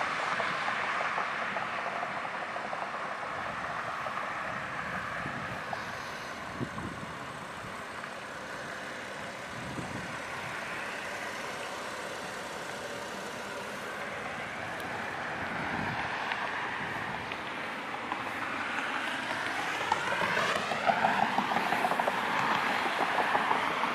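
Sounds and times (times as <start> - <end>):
road traffic noise: 0.0 - 23.9.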